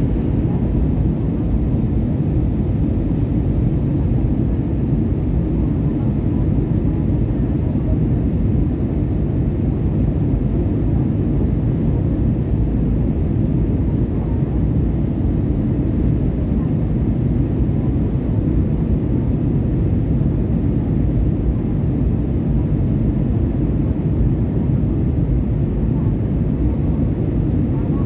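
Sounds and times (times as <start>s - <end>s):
airflow over fuselage: 0.0s - 28.0s
jet engines rumbling: 0.0s - 28.0s.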